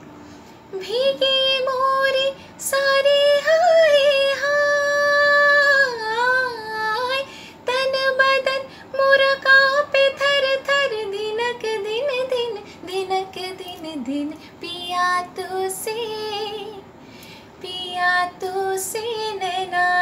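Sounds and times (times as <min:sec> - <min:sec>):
woman singing unaccompanied: 0:00.7 - 0:16.9, 0:17.6 - 0:20.0.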